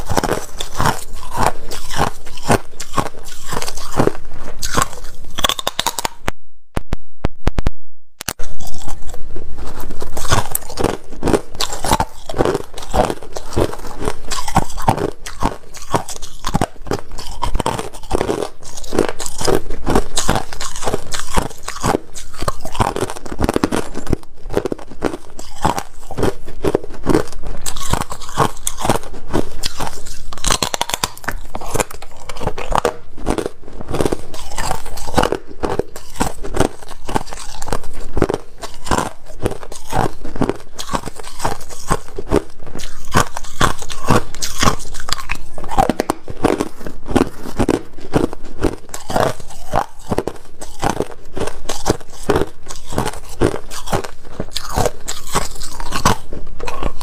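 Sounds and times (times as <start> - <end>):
ice crunching while chewed: 0.0 - 6.2, 8.2 - 57.0.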